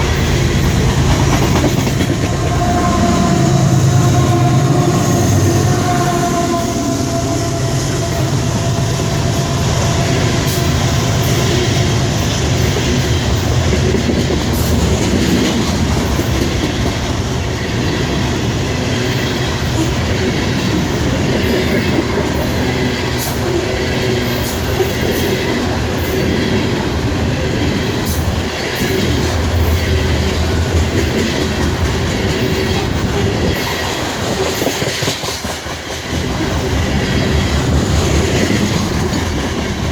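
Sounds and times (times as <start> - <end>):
train wheels clicking over rail joints: 0.0 - 3.3, 8.1 - 39.9.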